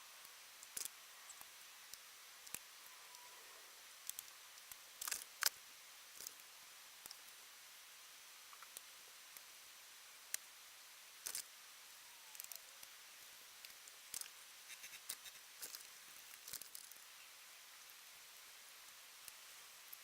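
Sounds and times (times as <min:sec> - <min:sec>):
low hiss: 0:00.0 - 0:20.0.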